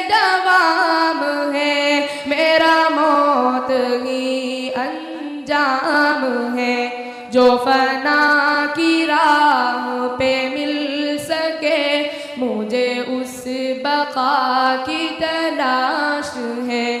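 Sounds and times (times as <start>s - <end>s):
devotional vocal singing: 0.0s - 17.0s.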